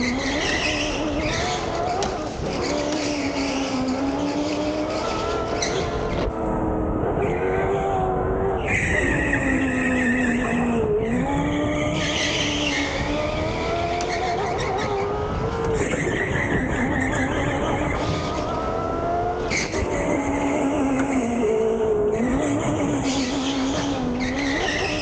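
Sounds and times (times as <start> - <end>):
electric go-kart motor whining: 0.0 - 25.0.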